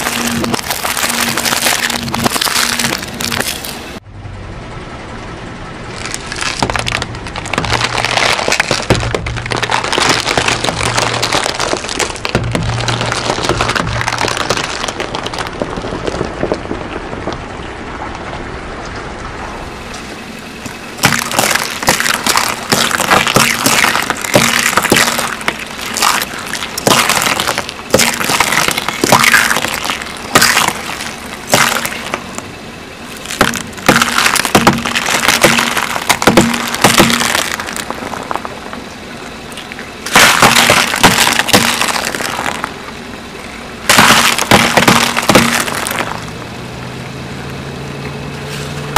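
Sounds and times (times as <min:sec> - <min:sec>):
tyre crushing crunchy objects: 0:00.0 - 0:04.0, 0:06.0 - 0:17.5, 0:20.6 - 0:38.9, 0:39.5 - 0:43.0, 0:43.8 - 0:46.9.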